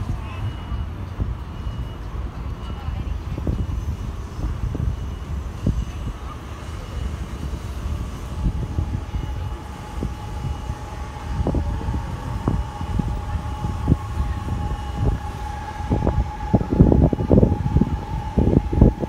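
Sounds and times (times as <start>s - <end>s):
thin distant whine: 0.0s - 19.0s
wind buffeting microphone: 0.0s - 19.0s.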